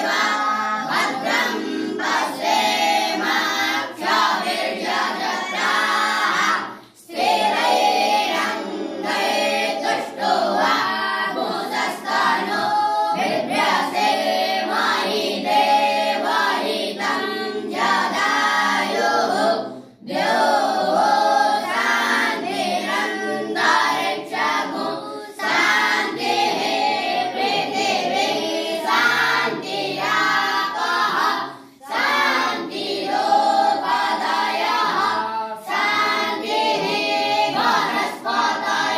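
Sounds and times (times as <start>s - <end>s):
young voices singing in unison: 0.0s - 38.9s.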